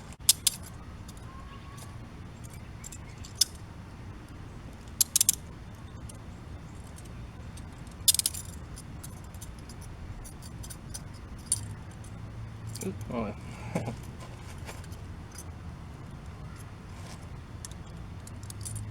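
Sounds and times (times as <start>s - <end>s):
handcuffs clinking and rattling: 0.0s - 18.9s.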